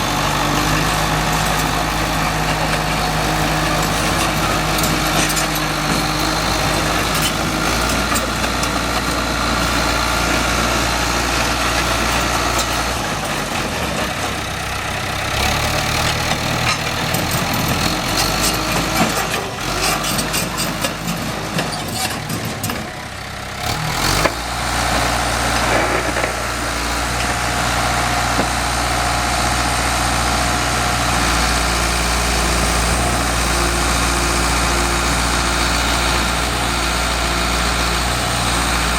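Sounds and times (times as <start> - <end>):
diesel engine running: 0.0 - 38.9
engine clatter: 0.0 - 38.9.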